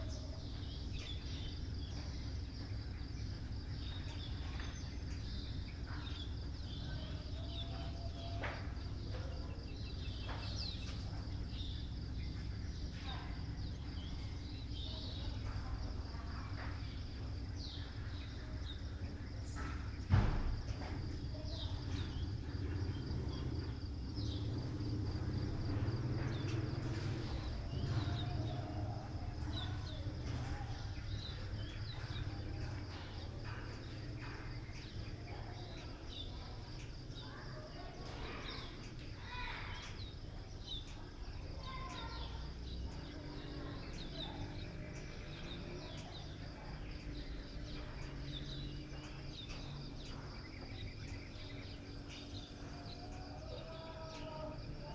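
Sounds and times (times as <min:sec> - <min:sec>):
bird chirps: 0:00.0 - 0:54.9
high pulsing insect trill: 0:00.0 - 0:54.9
low background rumble: 0:00.0 - 0:54.9.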